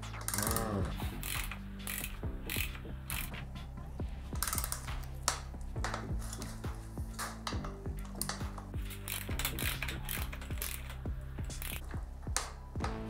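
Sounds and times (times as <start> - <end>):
ratchet wrench clicking: 0.1 - 3.5, 4.3 - 12.6.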